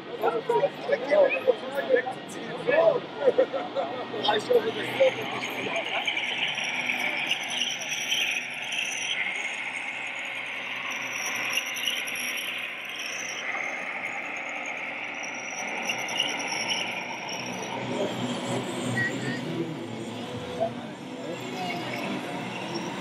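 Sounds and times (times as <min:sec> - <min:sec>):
busy exhibition hall noise: 0:00.0 - 0:11.6, 0:15.6 - 0:23.0
toy tractor motor whining: 0:04.3 - 0:23.0.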